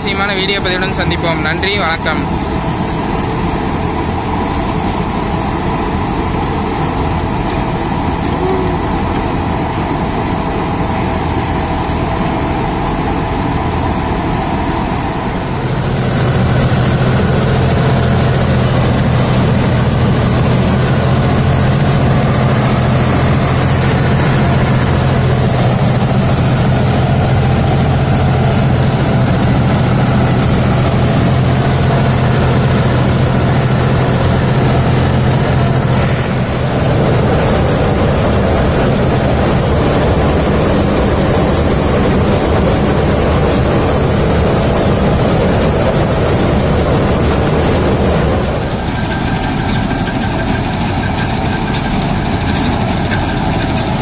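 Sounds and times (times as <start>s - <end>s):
low hum: 0.0s - 54.0s
tractor diesel engine running: 0.0s - 54.0s.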